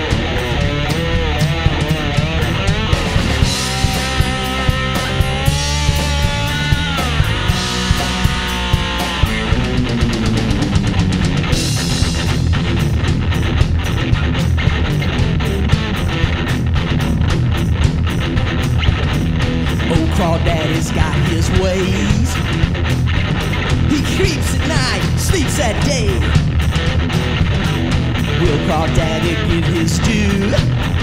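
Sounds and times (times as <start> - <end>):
bass guitar: 0.0 - 31.0
drum kit beat: 0.0 - 31.0
electric guitar bent notes: 0.0 - 31.0.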